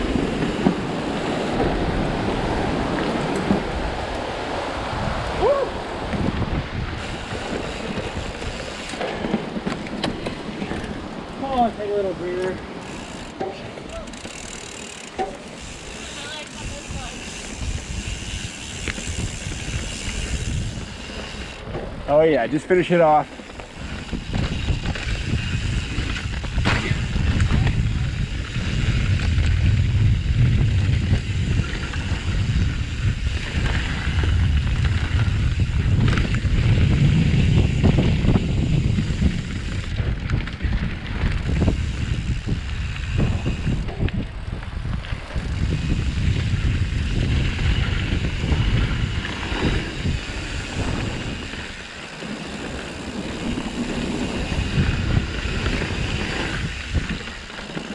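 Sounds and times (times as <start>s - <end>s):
bike rattling clicks and knocks: 0.0s - 4.2s, 6.0s - 57.9s
tyres rolling on dirt and rocks: 0.0s - 5.2s, 5.9s - 57.9s
wind buffeting microphone: 0.0s - 57.8s.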